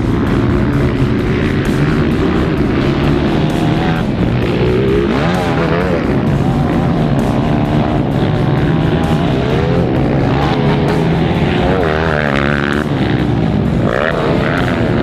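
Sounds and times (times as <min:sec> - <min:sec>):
background music with steady beat: 0:00.0 - 0:15.0
dirt bike engines revving: 0:00.0 - 0:15.0.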